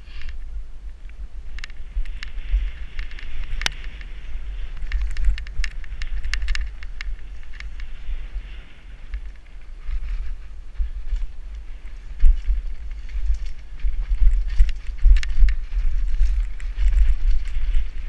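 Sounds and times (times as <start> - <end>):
bike clicks and rattles: 0.0 - 18.0
wind rumble on microphone: 0.0 - 18.0.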